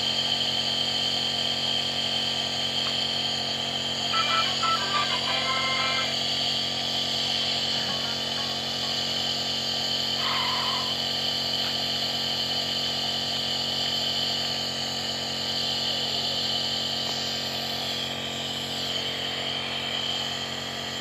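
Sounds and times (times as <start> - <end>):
nebulizer compressor humming and hissing: 0.0 - 21.0.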